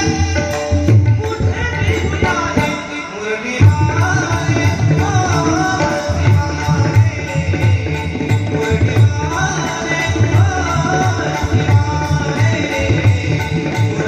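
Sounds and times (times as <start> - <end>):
person singing devotional melody: 0.0 - 14.0.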